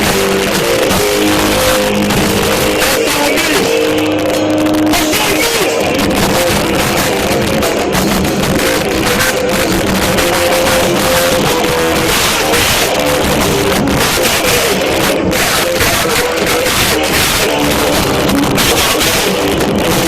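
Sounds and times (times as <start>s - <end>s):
distorted rock band playing: 0.0s - 20.0s.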